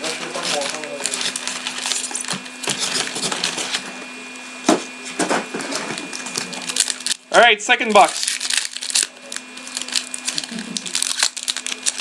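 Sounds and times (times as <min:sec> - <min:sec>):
packaging crackling and rustling: 0:00.0 - 0:03.9, 0:05.5 - 0:07.2, 0:08.0 - 0:12.0.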